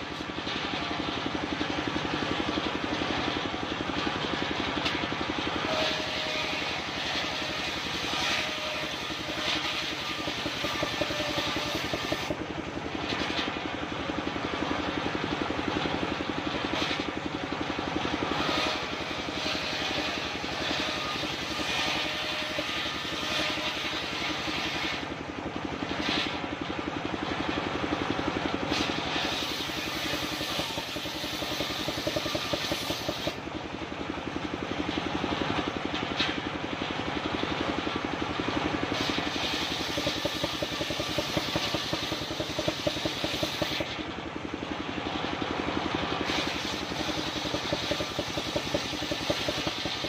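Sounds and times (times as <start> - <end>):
engine-driven circular saw running: 0.0 - 50.0.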